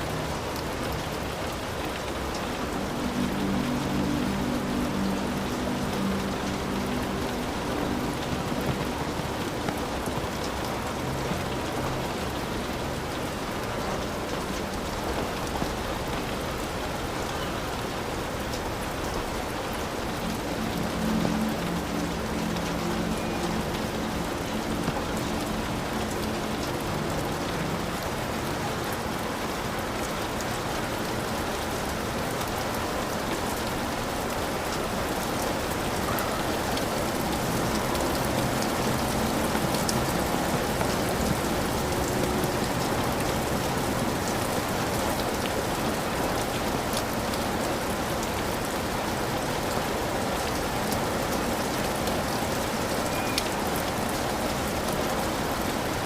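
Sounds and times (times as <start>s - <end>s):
heavy rain on a hut: 0.0s - 56.0s.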